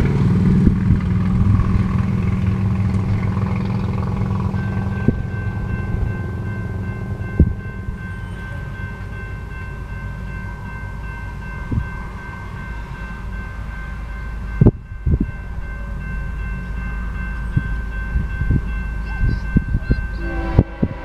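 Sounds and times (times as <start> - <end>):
crossing warning bell ringing: 0.0 - 21.0.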